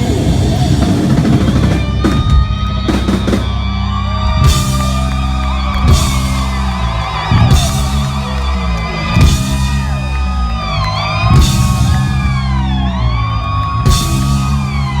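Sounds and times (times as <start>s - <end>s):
electric guitar wailing: 0.0s - 15.0s.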